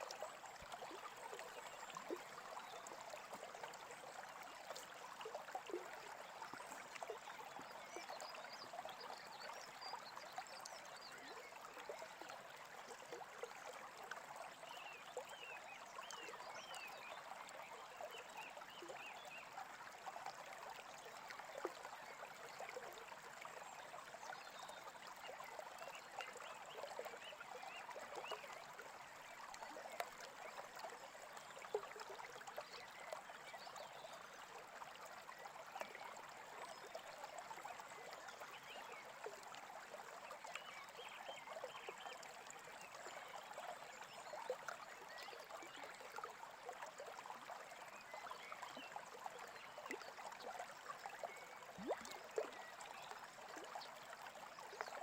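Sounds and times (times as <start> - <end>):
stream babbling: 0.0 - 55.0.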